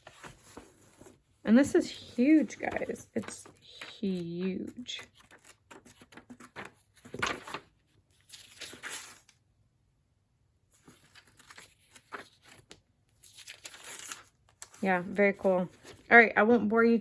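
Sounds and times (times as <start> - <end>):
book pages rustling: 0.0 - 9.4, 10.7 - 16.2.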